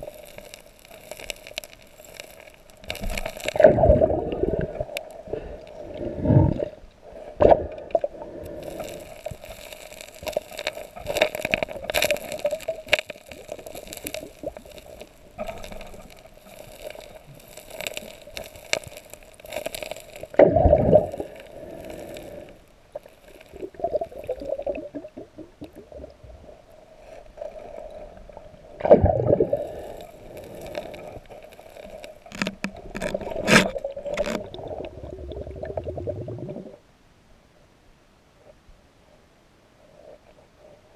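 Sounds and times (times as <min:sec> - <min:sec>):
rocks scraping and clicking underwater: 0:00.0 - 0:36.8
muffled rush of water: 0:00.0 - 0:40.9.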